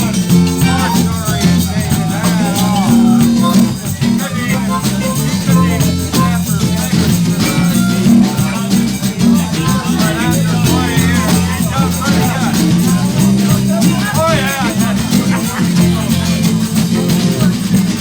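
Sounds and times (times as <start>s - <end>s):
bass line: 0.0s - 18.0s
steady drum beat: 0.0s - 18.0s.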